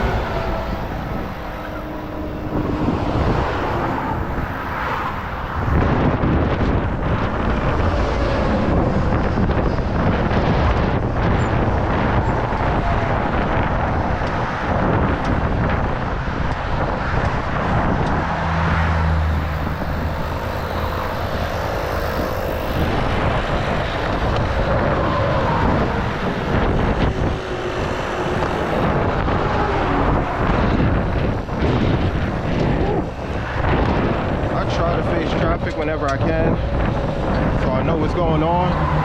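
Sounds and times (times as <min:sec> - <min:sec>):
deep engine drone: 0:00.0 - 0:39.0
highway traffic rushing: 0:00.0 - 0:39.0.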